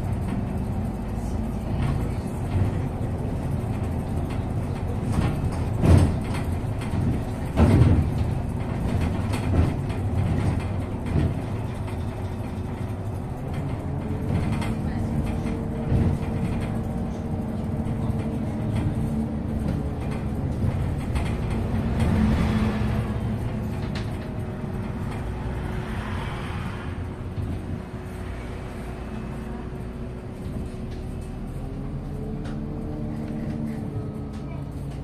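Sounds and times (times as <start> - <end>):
bus engine hum: 0.0 - 35.0
road and tyre noise: 0.0 - 35.0.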